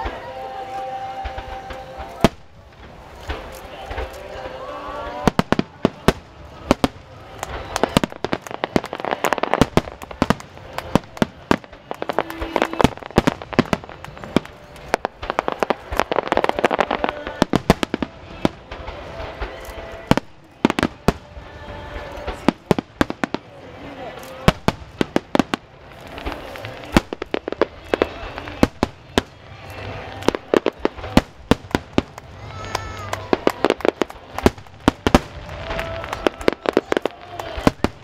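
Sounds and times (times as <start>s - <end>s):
fireworks bangs and crackle: 0.0s - 38.0s.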